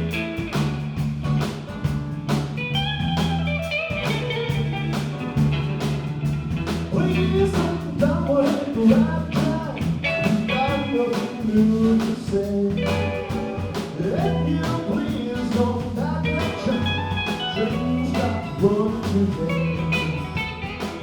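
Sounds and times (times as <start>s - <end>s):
blues rock band playing: 0.0s - 21.0s.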